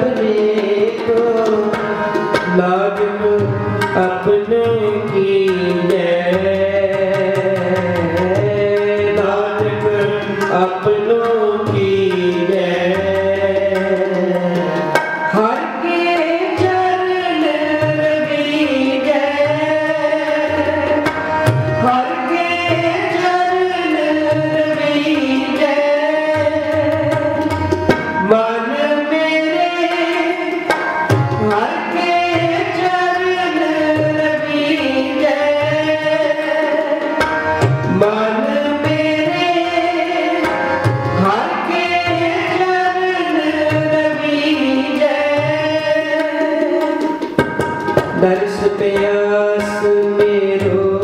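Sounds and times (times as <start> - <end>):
person singing: 0.0 - 47.2, 48.1 - 51.0
harmoniums playing melody: 0.0 - 51.0
tabla rhythm: 0.0 - 51.0.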